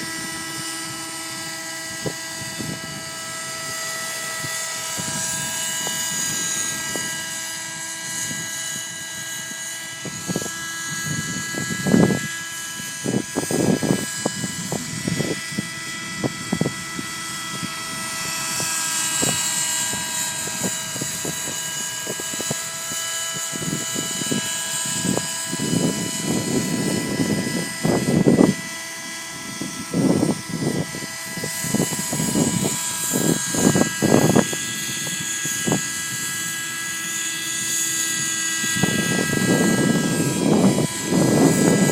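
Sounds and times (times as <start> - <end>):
model helicopter engine whine: 0.0 - 41.9
wind buffeting microphone: 0.0 - 41.9.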